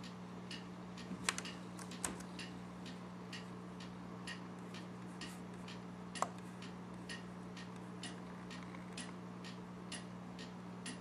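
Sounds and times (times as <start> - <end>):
low electrical hum: 0.0 - 11.0
regular ticking: 0.0 - 11.0.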